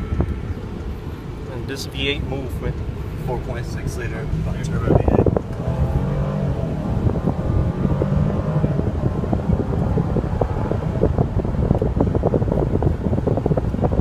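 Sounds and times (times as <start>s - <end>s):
wind noise on microphone: 0.0s - 14.0s
car engine running: 0.5s - 14.0s.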